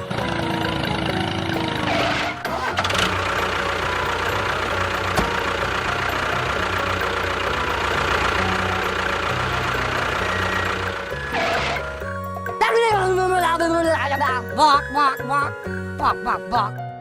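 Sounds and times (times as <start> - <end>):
tractor engine idling: 0.0 - 14.4.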